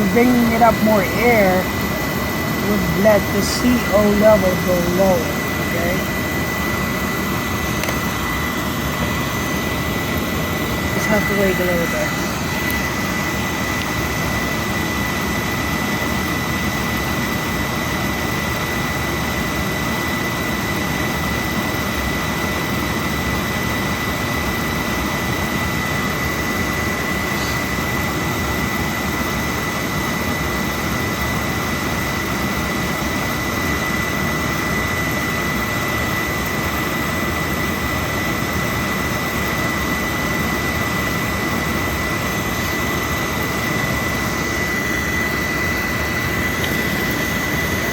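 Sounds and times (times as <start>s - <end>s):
oil burner roaring: 0.0s - 47.9s
thin high whine: 0.0s - 47.9s.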